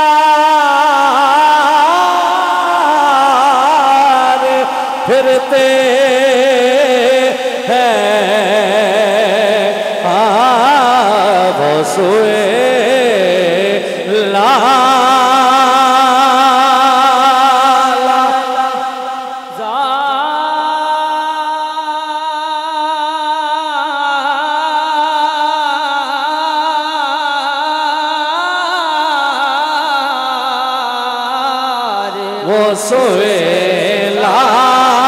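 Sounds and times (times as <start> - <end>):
man singing into microphone: 0.0 - 35.0.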